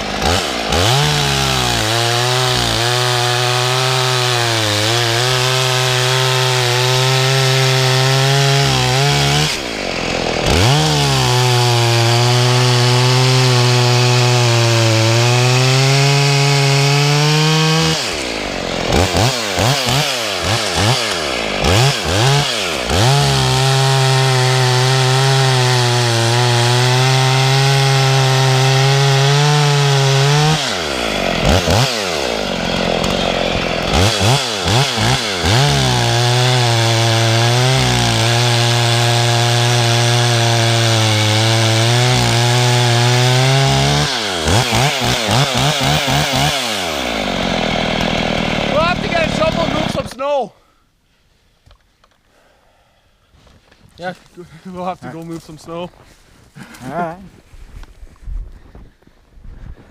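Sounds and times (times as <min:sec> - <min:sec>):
chainsaw at full throttle: 0:00.0 - 0:50.4.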